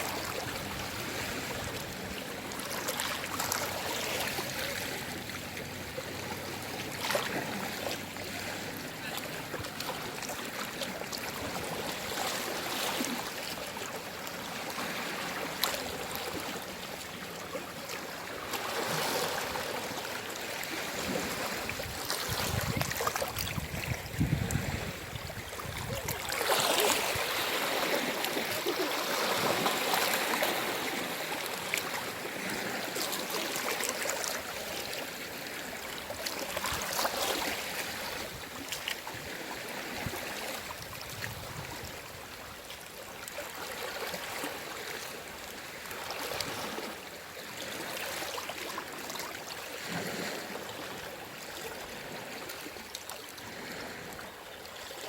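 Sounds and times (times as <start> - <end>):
sea waves washing on shore: 0.0 - 55.0.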